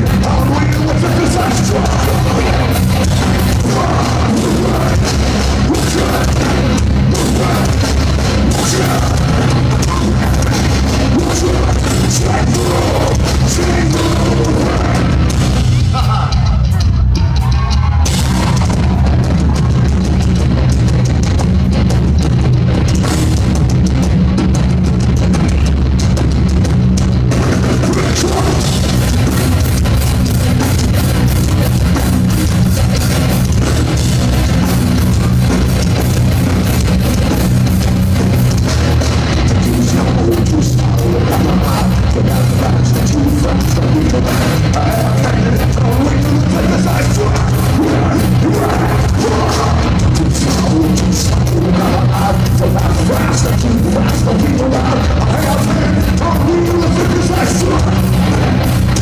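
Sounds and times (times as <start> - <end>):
bass guitar: 0.0 - 59.0
distorted guitars: 0.0 - 59.0
drum kit: 0.0 - 59.0.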